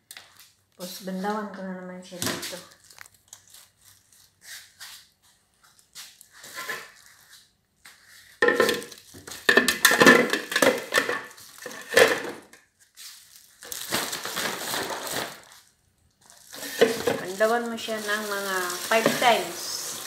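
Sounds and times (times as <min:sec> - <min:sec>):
clattering and crinkling at a sink: 0:02.1 - 0:20.0.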